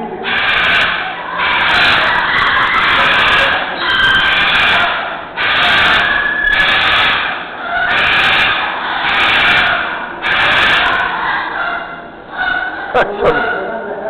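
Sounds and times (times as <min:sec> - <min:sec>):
macaw screeching: 0:00.2 - 0:13.8.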